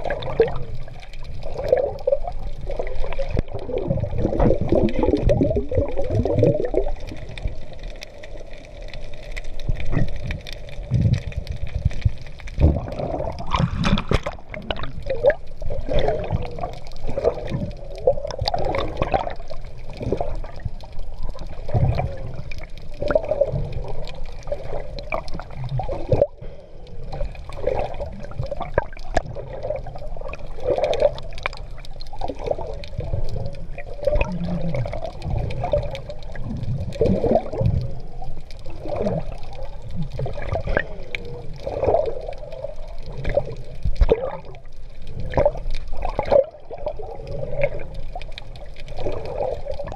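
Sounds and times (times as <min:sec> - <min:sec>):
sea water sloshing and gurgling: 0:00.0 - 0:49.9.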